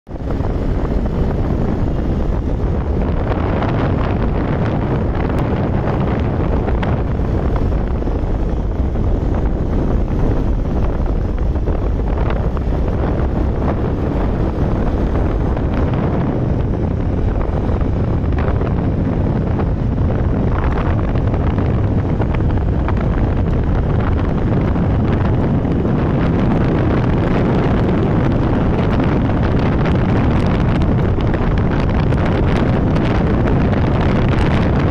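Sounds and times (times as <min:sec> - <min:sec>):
road noise: 0:00.0 - 0:34.9
wind buffeting microphone: 0:00.1 - 0:34.9.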